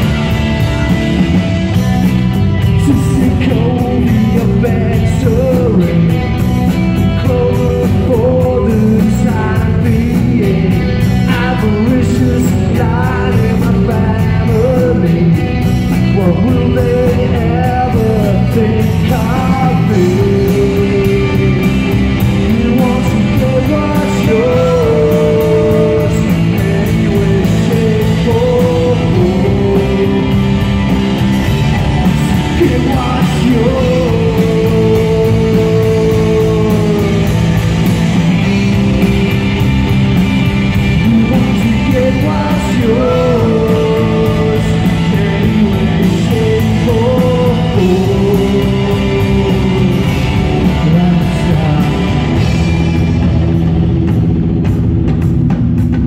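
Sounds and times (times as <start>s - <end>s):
man singing: 0.0s - 39.6s, 40.7s - 53.1s
rock band playing live: 0.0s - 56.0s.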